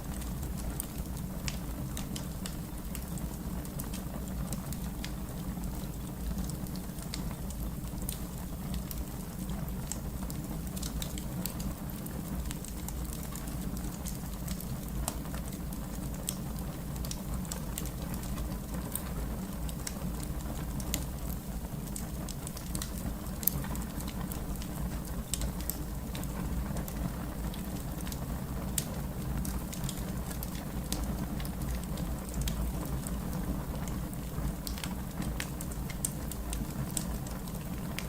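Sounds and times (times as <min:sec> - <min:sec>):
fire crackling: 0:00.0 - 0:38.0.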